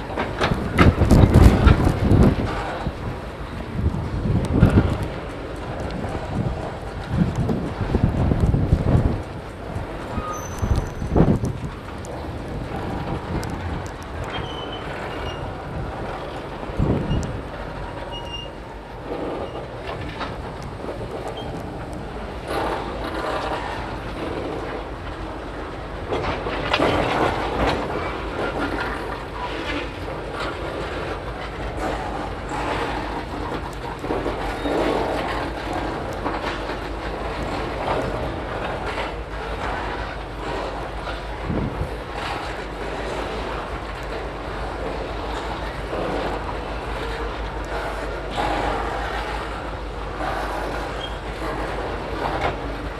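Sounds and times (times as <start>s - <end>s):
diesel locomotive engines rumbling: 0.0s - 52.9s
train cars clanking and banging: 0.0s - 52.9s.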